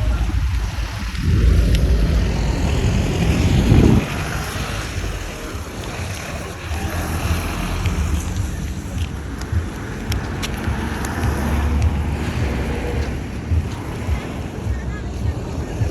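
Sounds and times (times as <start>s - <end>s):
passing vehicle rumble: 0.0s - 15.9s
traffic rumble: 0.0s - 15.9s
wind buffeting microphone: 0.0s - 15.9s.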